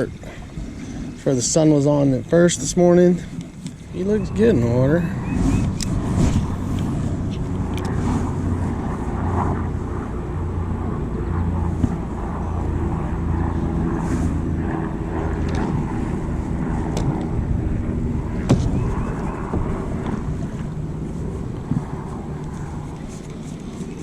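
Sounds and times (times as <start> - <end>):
low motor drone: 0.0 - 24.0.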